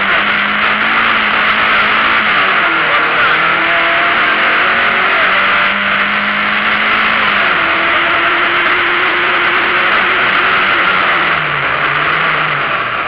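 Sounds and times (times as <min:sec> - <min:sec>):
rally car engine at speed: 0:00.0 - 0:13.0
road and wind noise: 0:00.0 - 0:13.0.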